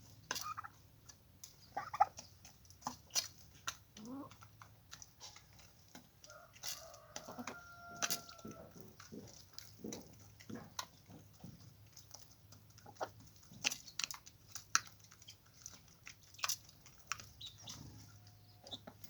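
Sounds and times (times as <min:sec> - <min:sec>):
chickens pecking on hard surface: 0:00.0 - 0:19.0.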